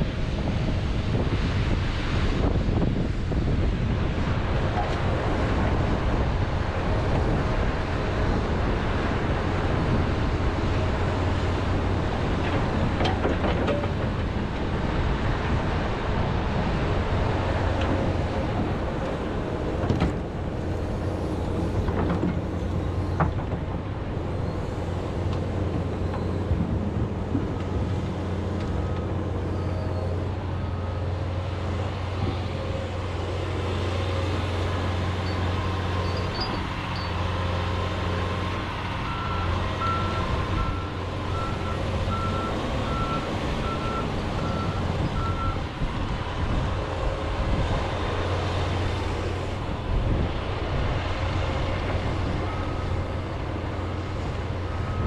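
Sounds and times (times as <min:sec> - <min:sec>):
excavator diesel engine running: 0:02.8 - 0:55.0.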